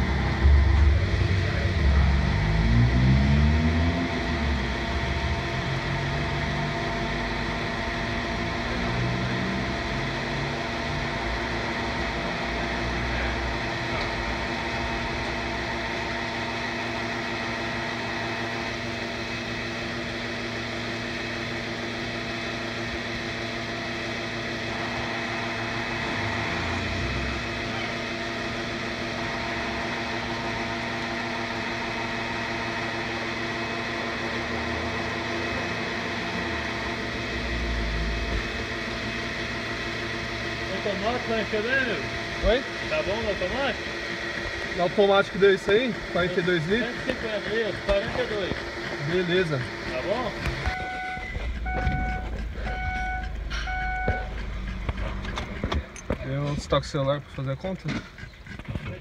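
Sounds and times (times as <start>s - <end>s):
fuel pump humming: 0.0s - 59.0s.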